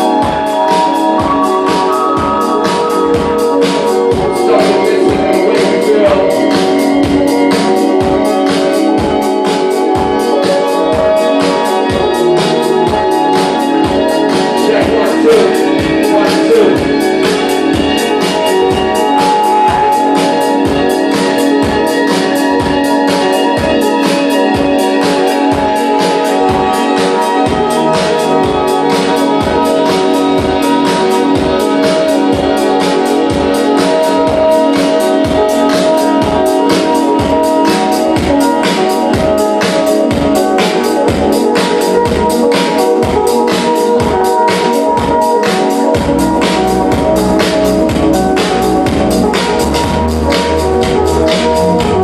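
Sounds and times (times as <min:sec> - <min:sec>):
dance music kick drum: 0:00.0 - 0:52.0
sustained keyboard chords: 0:00.0 - 0:52.0.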